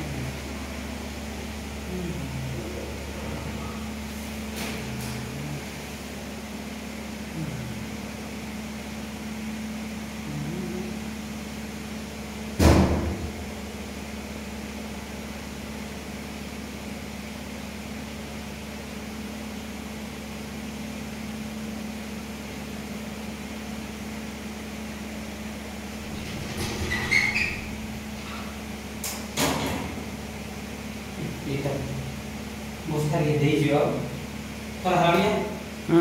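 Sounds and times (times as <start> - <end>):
low background hum: 0.0 - 21.4, 22.4 - 36.0.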